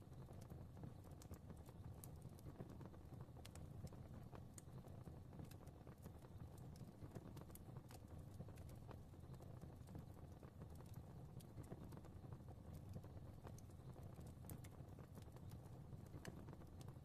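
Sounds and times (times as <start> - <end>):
fire pops and snaps: 0.0 - 17.0
low rumble of flames: 0.0 - 17.0.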